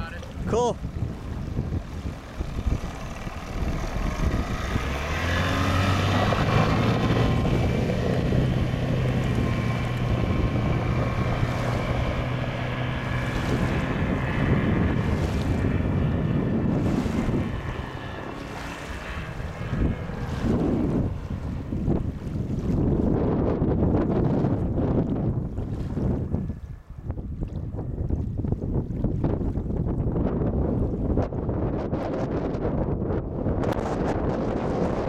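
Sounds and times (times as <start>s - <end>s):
outboard motor running at speed: 0.0s - 35.0s
wind on microphone: 0.0s - 35.0s.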